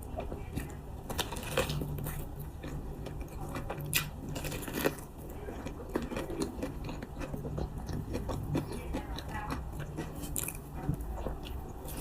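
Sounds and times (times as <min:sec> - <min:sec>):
person chewing wetly: 0:00.0 - 0:12.0.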